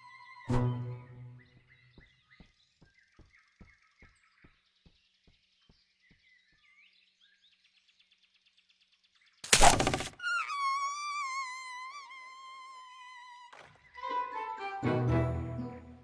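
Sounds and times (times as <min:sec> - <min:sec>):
birdsong chirping: 0:00.0 - 0:14.2.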